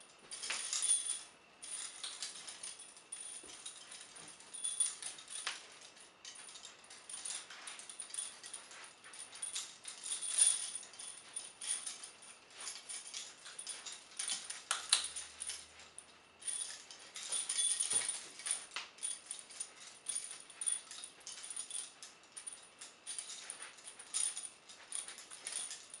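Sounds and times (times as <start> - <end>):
shackles chain jangling: 0.0 - 26.0
sharp metal on metal clinks: 0.0 - 26.0.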